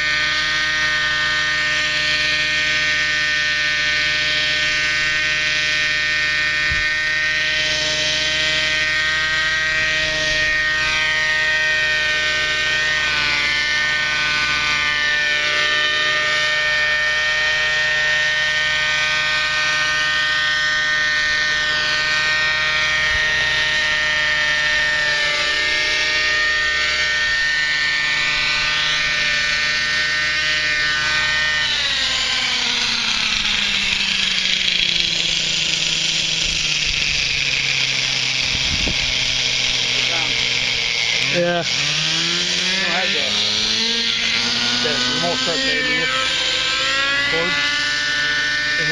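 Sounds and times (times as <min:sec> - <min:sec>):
model helicopter engine and rotor: 0:00.0 - 0:48.9.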